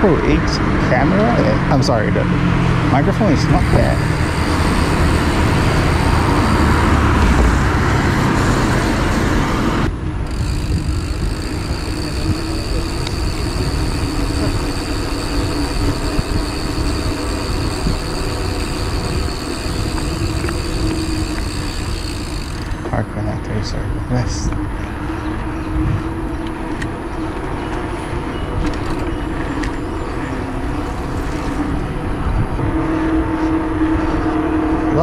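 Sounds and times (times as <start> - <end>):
road traffic: 0.0 - 35.0
wind rumble: 0.0 - 35.0
bike tyre noise on pavement: 3.0 - 23.1, 24.3 - 34.7.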